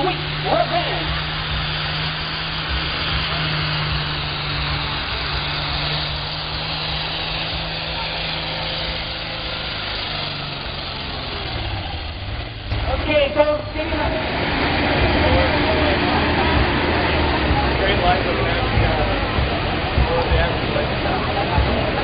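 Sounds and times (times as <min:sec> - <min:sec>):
diesel engine running loud: 0:00.0 - 0:22.0.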